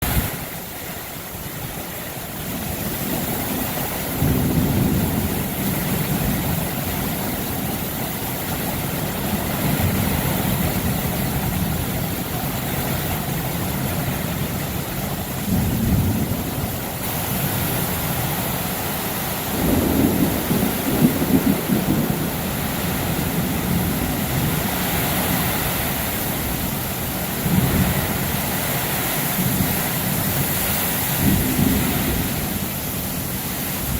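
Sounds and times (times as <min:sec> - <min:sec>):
heavy rain falling: 0:00.0 - 0:33.9
low rumbles of thunder: 0:02.5 - 0:18.4, 0:19.3 - 0:33.9.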